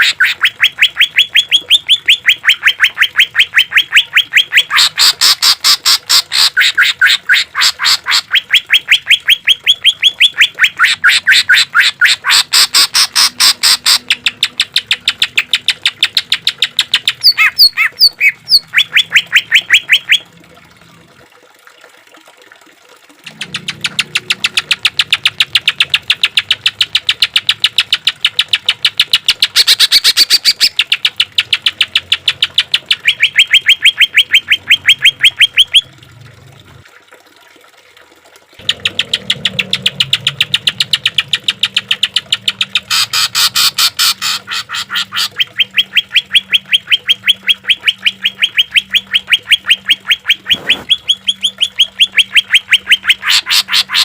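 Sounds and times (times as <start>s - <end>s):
bird song rapid sharp notes: 0.0s - 5.6s, 8.3s - 20.2s, 23.3s - 35.8s, 39.7s - 54.0s.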